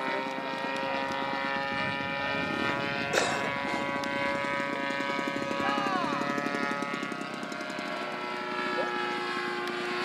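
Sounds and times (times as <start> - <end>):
model plane engine running: 0.0 - 10.0.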